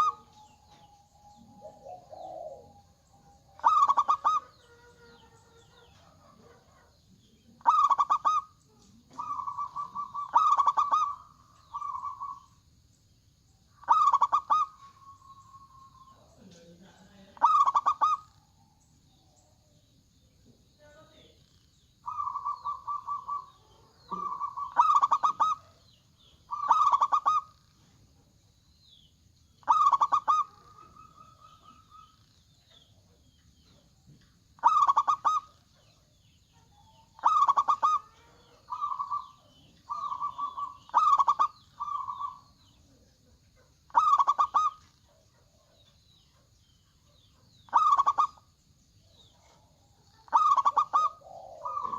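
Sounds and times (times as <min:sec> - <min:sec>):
doves cooing: 0:00.0 - 0:12.7, 0:13.7 - 0:19.5, 0:22.0 - 0:28.1, 0:29.6 - 0:46.5, 0:47.1 - 0:51.9.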